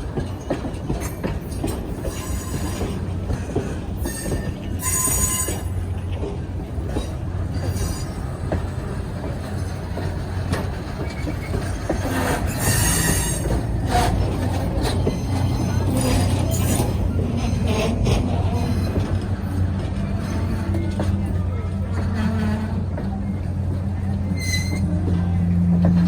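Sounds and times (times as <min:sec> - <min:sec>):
train rumbling past: 0:00.0 - 0:26.0
wheels squealing on rail: 0:00.1 - 0:26.0.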